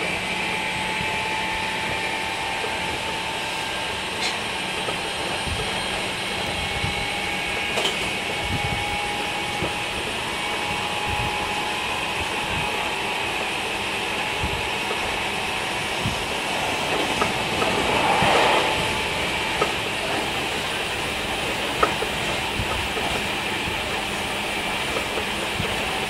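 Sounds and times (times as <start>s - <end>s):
train rolling and motor noise: 0.0s - 26.0s.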